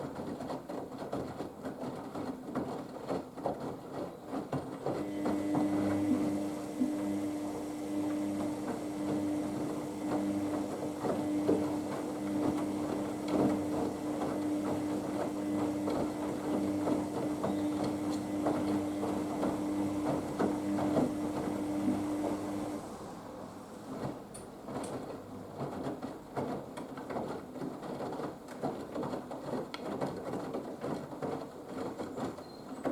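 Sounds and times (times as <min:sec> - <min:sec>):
laundry and water sloshing: 0:00.0 - 0:32.9
washing machine motor hum: 0:01.9 - 0:32.9.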